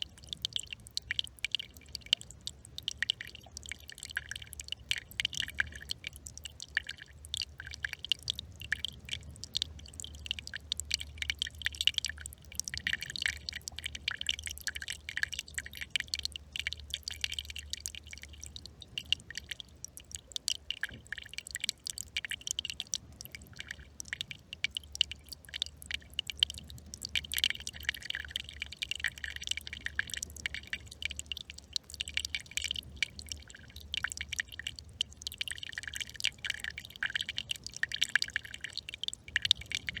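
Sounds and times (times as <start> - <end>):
small brook trickling: 0.0 - 40.0.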